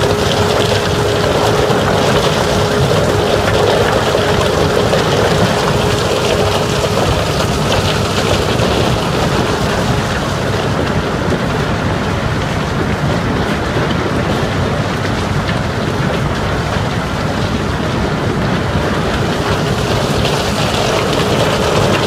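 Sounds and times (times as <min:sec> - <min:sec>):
rock rumbling through chute: 0:00.0 - 0:22.0
steady hum: 0:00.0 - 0:22.0.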